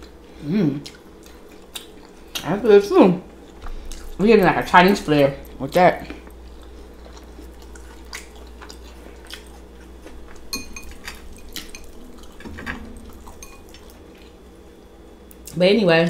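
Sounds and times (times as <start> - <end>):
soft chewing: 0.0 - 15.6
low steady hum: 0.0 - 16.0.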